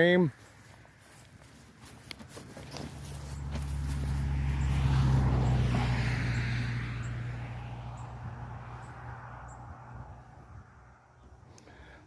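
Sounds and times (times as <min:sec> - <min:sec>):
vehicle passing by: 0:00.3 - 0:11.4.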